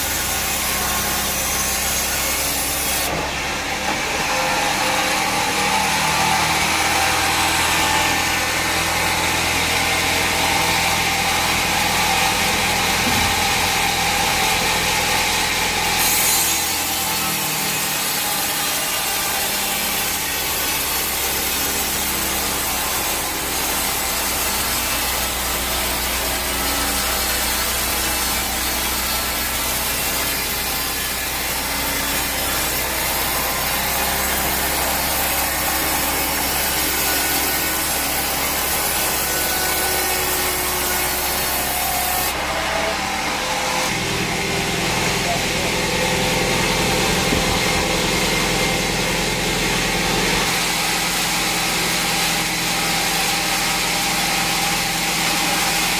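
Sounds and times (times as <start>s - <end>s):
sawmill saw cutting timber: 0.0s - 55.9s.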